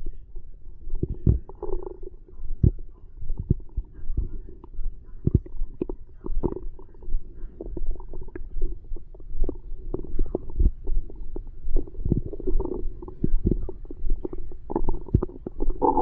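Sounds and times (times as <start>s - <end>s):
stomach growling and gurgling: 0.0s - 16.0s.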